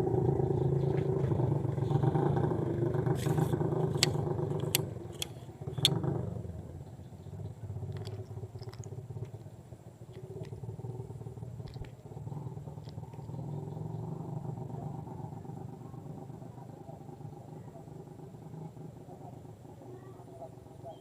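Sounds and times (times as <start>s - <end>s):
small engine droning: 0.0s - 21.0s.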